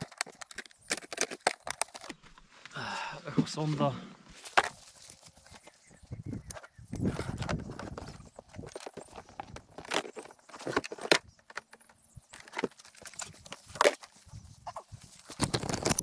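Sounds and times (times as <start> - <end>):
clicks and rattles of equipment handling: 0.0 - 2.4, 4.4 - 16.0.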